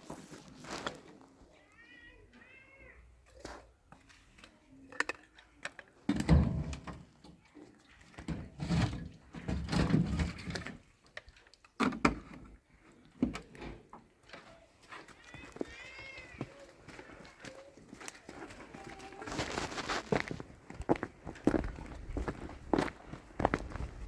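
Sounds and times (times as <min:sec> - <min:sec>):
scraping and handling noises: 0:00.0 - 0:01.5, 0:03.2 - 0:24.0.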